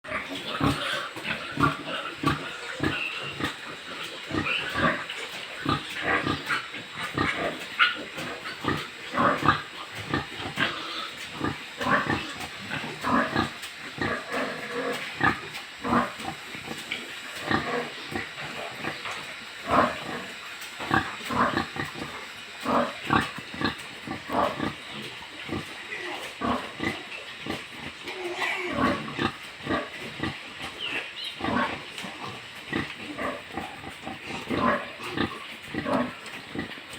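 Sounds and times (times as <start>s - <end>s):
pigs grunting: 0.1s - 36.9s.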